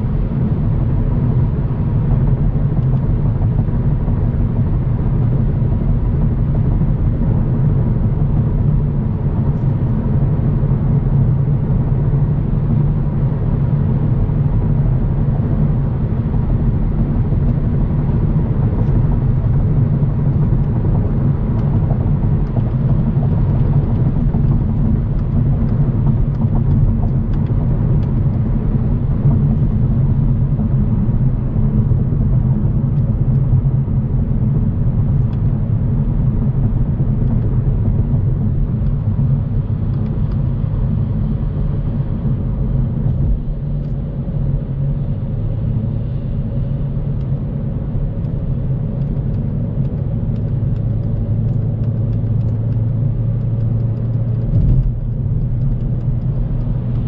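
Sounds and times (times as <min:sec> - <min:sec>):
road and engine rumble: 0:00.0 - 0:57.0.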